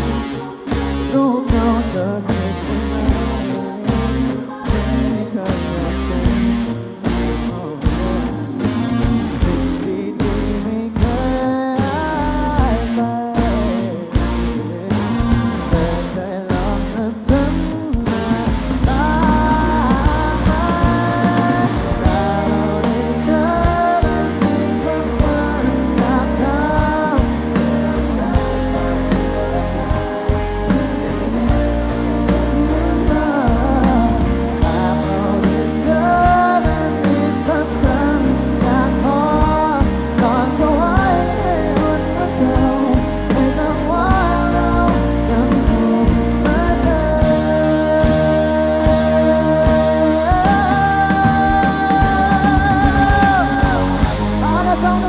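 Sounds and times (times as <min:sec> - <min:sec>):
bass and drums: 0:00.0 - 0:55.0
melodic lead with bending notes: 0:00.0 - 0:55.0.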